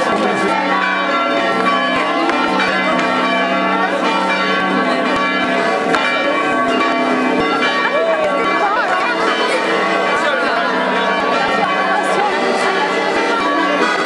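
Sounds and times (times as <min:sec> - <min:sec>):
church bells ringing: 0:00.0 - 0:14.0
voices: 0:00.0 - 0:14.0.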